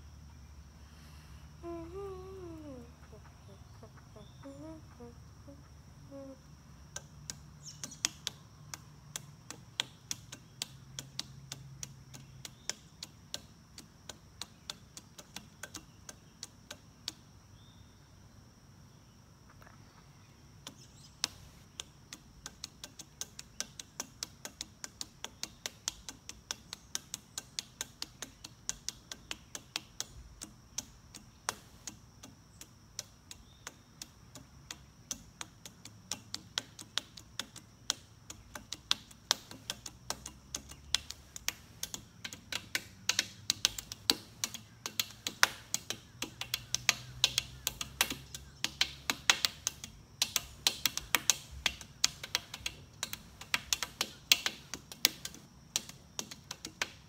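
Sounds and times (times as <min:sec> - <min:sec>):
sharp irregular ticks: 0:01.6 - 0:17.5, 0:20.6 - 0:57.0.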